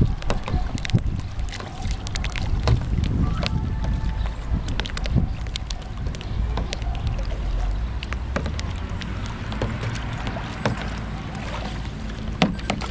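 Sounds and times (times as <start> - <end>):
steady low rumble: 0.0 - 12.4
paddles splashing in water: 0.0 - 12.9
water drips: 0.0 - 12.9.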